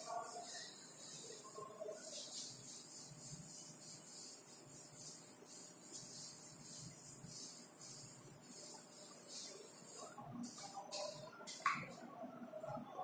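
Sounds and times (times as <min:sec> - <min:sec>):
duster swishing on chalkboard: 0:00.0 - 0:12.1.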